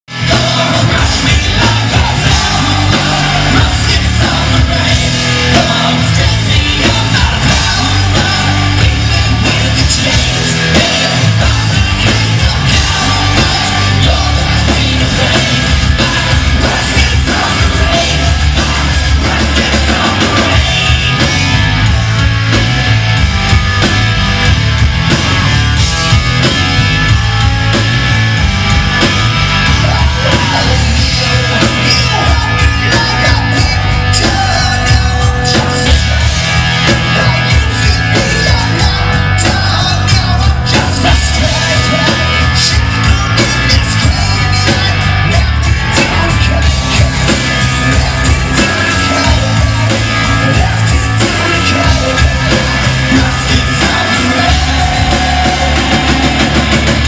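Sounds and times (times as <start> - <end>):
punk rock band playing: 0.0 - 57.0
person singing and yelling: 0.1 - 22.2, 29.5 - 57.0.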